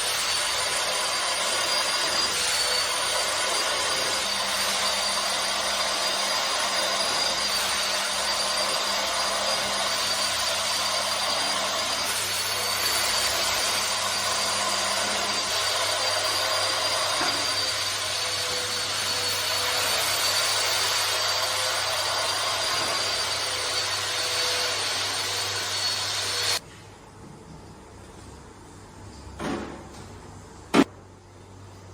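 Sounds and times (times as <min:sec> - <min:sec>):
carpet cleaning machine whine: 0:00.0 - 0:26.6.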